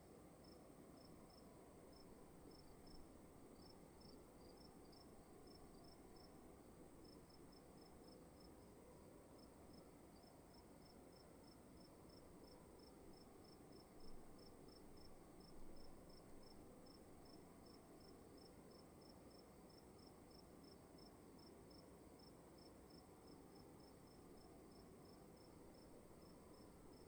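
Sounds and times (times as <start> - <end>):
low room tone hiss: 0.0 - 27.0
high continuous insect trill: 0.1 - 27.0
cricket chirping: 0.4 - 6.4, 7.0 - 27.0.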